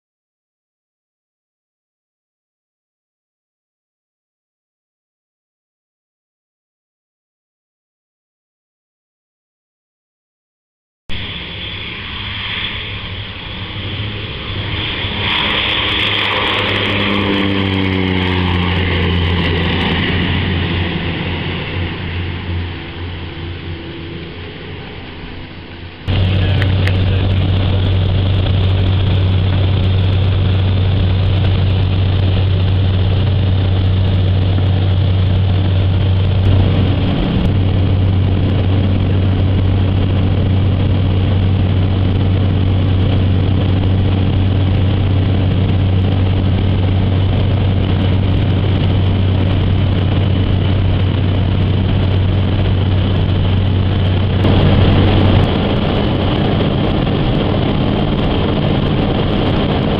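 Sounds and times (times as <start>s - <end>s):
propeller aircraft engine drone: 11.1s - 59.9s.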